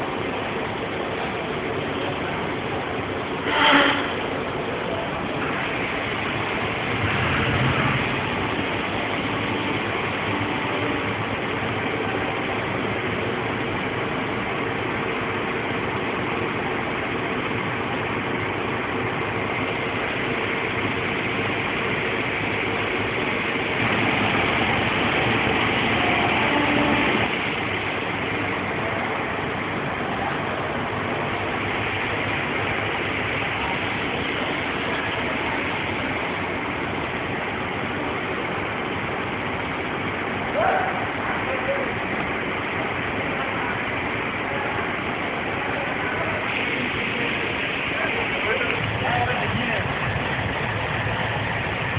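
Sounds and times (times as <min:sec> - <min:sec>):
industrial laundry machinery: 0:00.0 - 0:51.9.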